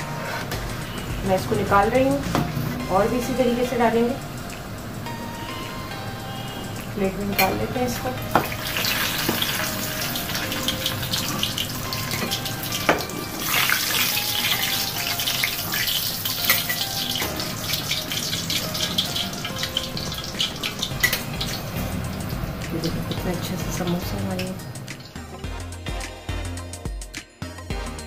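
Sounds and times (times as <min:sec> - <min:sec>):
hot oil sizzling and crackling: 0:00.0 - 0:25.5.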